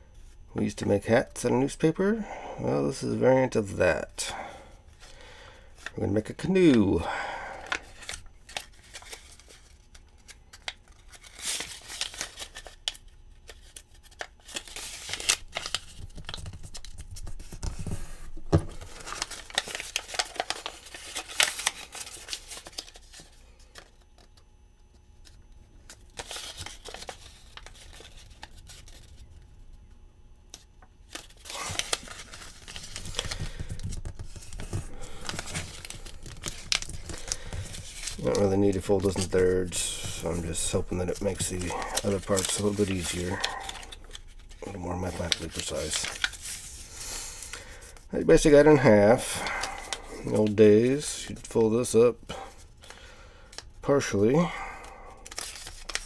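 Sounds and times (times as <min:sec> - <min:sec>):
paper banknote crinkling: 0:04.2 - 0:29.5, 0:30.5 - 0:56.0.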